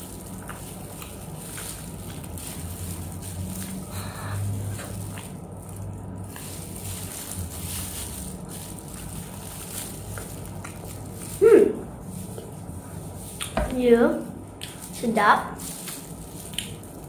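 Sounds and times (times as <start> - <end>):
chewing ice cream sandwich: 0.0 - 13.6, 15.8 - 17.0
steady low hum: 0.0 - 17.0.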